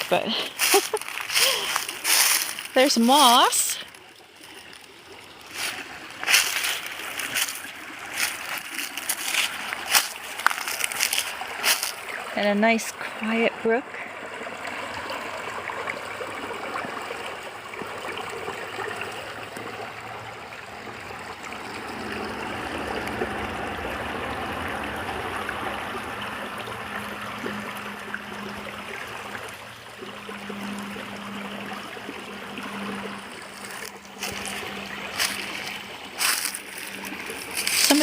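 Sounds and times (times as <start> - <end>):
brook trickling over stones: 0.0 - 38.0.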